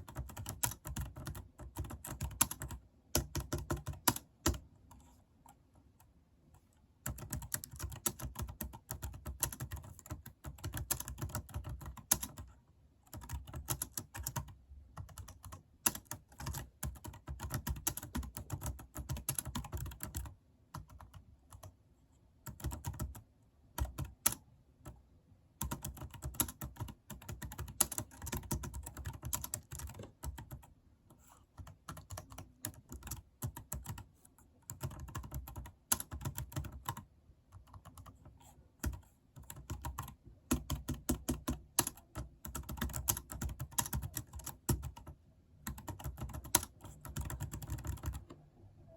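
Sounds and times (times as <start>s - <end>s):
keyboard typing: 0.0s - 12.5s, 13.1s - 21.7s, 22.4s - 25.0s, 25.6s - 48.9s.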